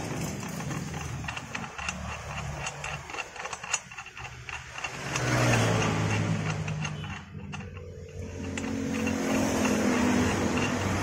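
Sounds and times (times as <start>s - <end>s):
metallic clicks of bolt screwing: 0.0s - 11.0s
vehicle engine running: 0.0s - 11.0s.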